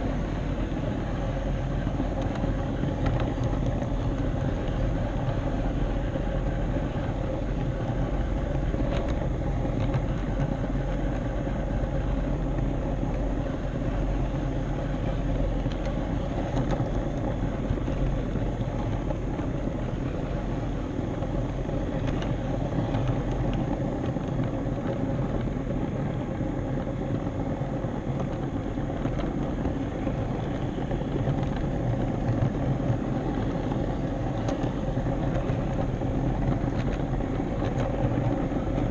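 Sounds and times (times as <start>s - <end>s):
faint motor hum: 0.0s - 38.9s
model train rolling rumble: 0.0s - 38.9s.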